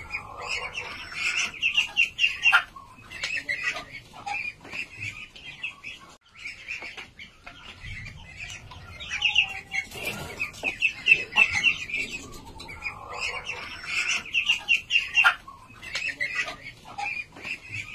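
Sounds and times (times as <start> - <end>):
ducklings peeping: 0.0 - 17.9.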